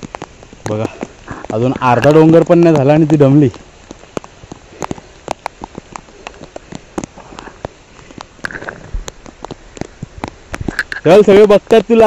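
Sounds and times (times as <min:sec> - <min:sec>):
rain falling: 0:00.0 - 0:12.0
raindrops hitting close by: 0:00.0 - 0:12.0.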